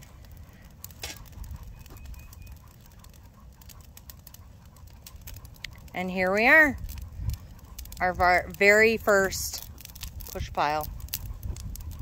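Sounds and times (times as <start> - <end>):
branches burning crackling: 0.0 - 12.0
fire low rumble: 0.0 - 12.0.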